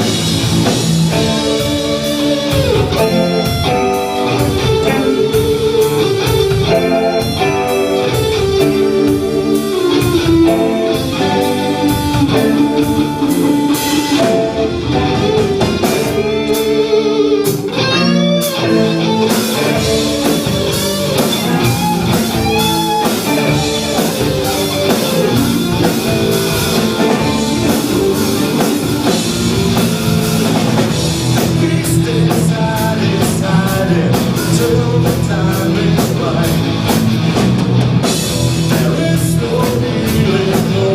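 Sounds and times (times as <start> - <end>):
electric guitar bending notes: 0.0 - 40.9
live rock band playing: 0.0 - 40.9.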